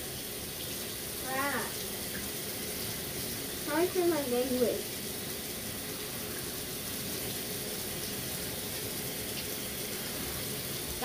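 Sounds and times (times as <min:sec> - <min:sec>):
water spraying from shower head: 0:00.0 - 0:11.0.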